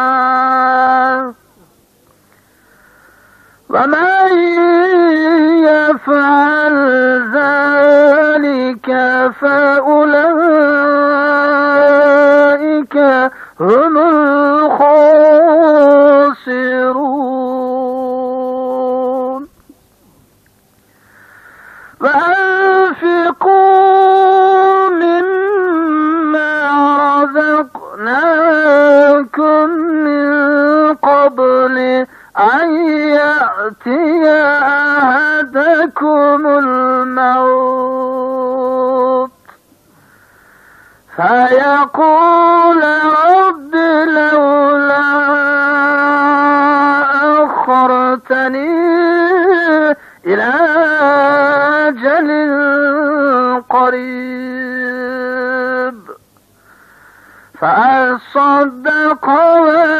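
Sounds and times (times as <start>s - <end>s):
person chanting: 0.0s - 1.4s, 3.7s - 19.5s, 22.0s - 39.6s, 41.1s - 56.2s, 57.6s - 59.9s.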